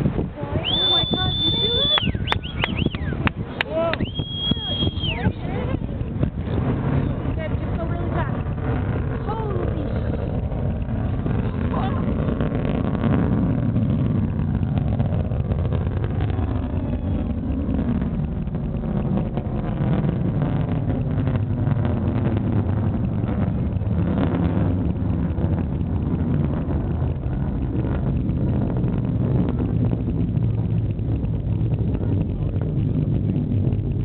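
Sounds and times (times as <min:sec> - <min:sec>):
distant rocket rumble: 0:00.0 - 0:34.0.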